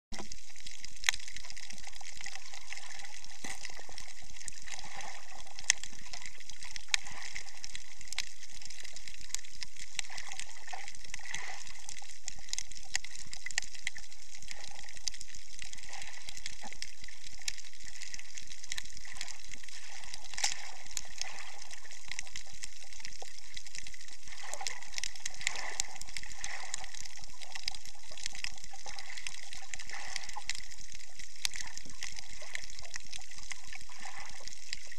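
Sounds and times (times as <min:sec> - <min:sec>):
sharp underwater clicks: 0:00.1 - 0:34.9
wavering watery murmur: 0:00.1 - 0:34.9.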